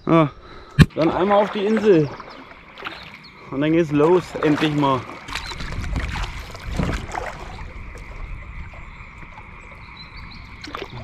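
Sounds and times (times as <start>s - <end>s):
frogs calling in chorus: 0.0s - 11.0s
paddle splashing in water: 0.8s - 11.0s.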